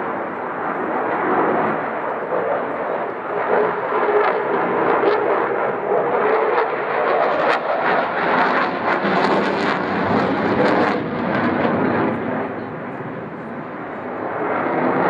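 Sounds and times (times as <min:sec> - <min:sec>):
jet engines in afterburner: 0:00.0 - 0:15.0.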